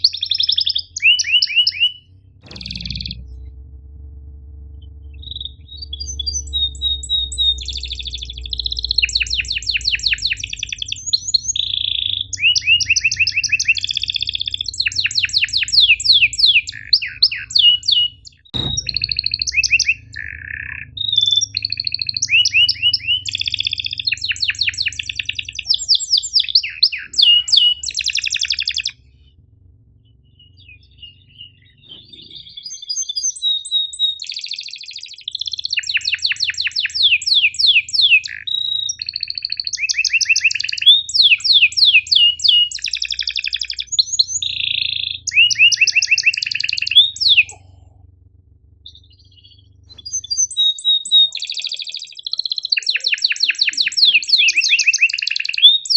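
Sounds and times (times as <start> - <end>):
canary singing trills: 0.0 - 3.4, 5.1 - 55.9.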